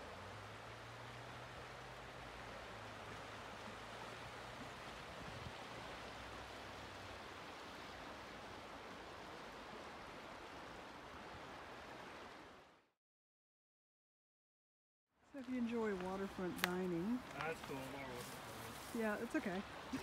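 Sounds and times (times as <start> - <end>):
flowing water rushing: 0.0 - 12.9, 15.4 - 20.0.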